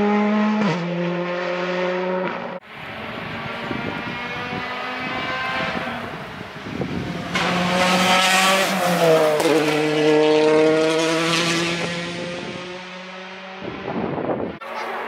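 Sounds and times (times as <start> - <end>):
rally car engine passing by: 0.0 - 14.1.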